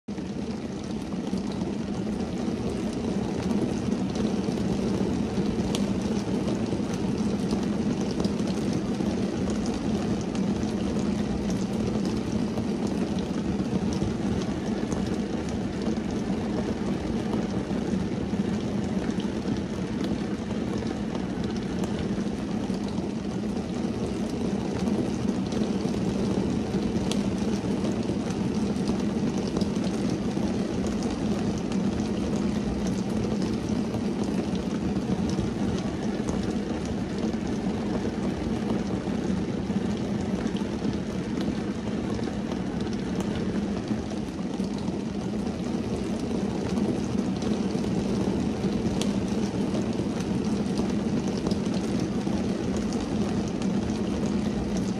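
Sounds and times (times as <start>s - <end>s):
rain on car windshield and roof: 0.1s - 54.9s.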